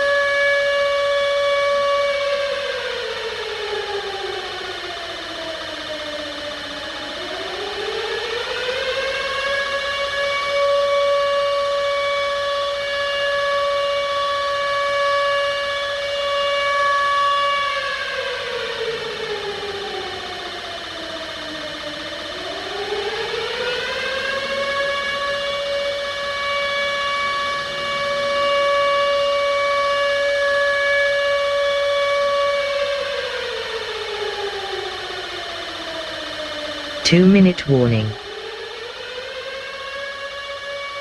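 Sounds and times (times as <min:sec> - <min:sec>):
air-raid siren: 0:00.0 - 0:19.8, 0:21.8 - 0:34.9, 0:39.5 - 0:41.0.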